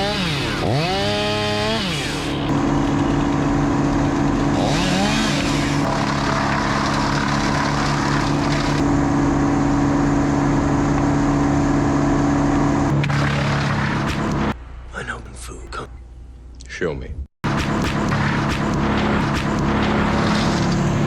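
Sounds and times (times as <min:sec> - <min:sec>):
engine running at high speed: 0:00.0 - 0:14.6, 0:17.4 - 0:21.0.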